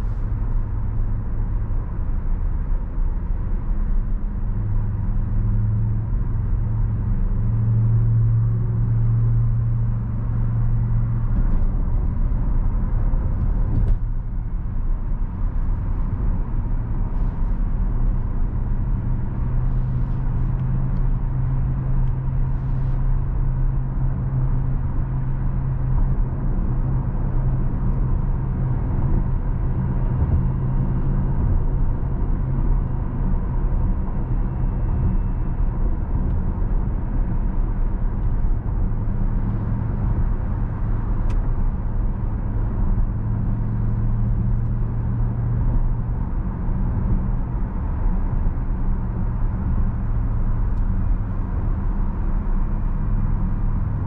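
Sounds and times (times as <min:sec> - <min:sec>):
road and tyre noise: 0:00.0 - 0:54.0.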